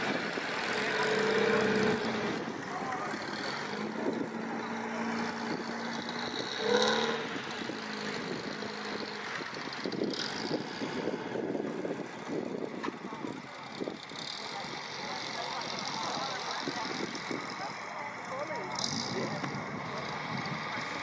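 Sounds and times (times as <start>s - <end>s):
car engine running at low speed: 0.0s - 21.0s.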